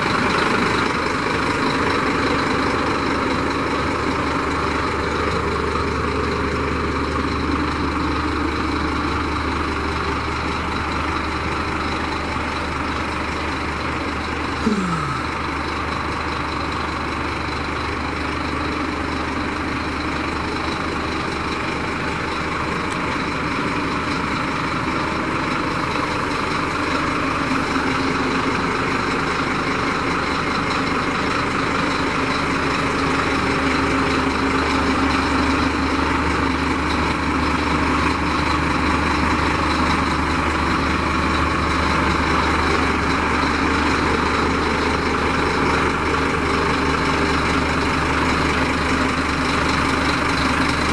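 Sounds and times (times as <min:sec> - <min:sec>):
truck diesel engine idling: 0:00.0 - 0:50.9.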